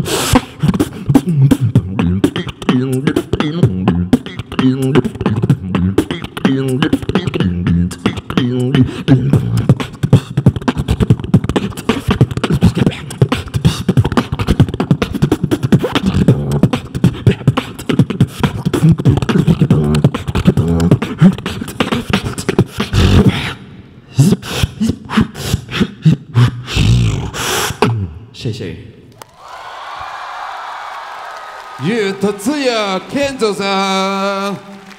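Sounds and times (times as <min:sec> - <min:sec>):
person beatboxing into a microphone: 0:00.0 - 0:28.7.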